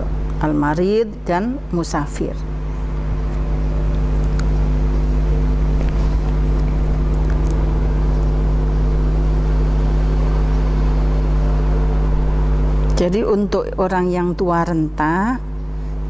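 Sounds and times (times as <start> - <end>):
low buzzing hum: 0.0 - 16.0.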